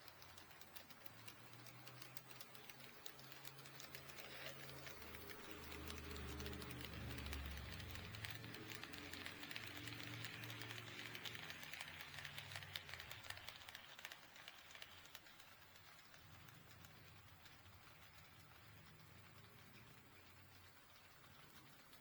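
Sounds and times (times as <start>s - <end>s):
model train motor hum: 0.0s - 22.0s
train wheels clicking on rails: 0.0s - 22.0s.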